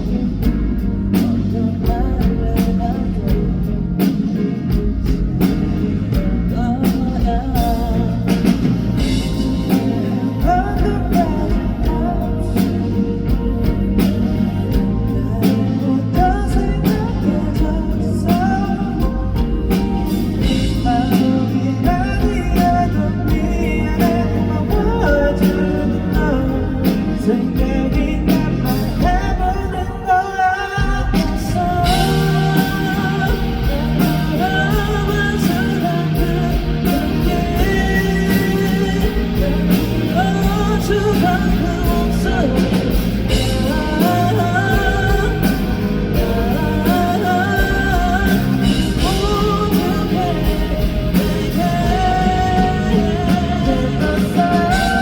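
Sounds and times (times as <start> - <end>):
man singing: 0.0 - 55.0
pop-rock band playing: 0.0 - 55.0.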